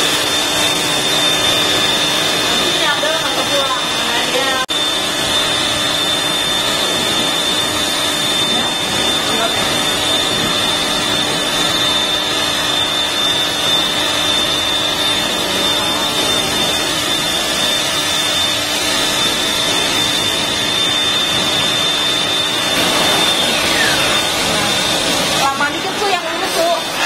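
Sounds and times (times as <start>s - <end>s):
pressure washer whine: 0.0s - 27.0s
water jet hissing: 0.0s - 27.0s.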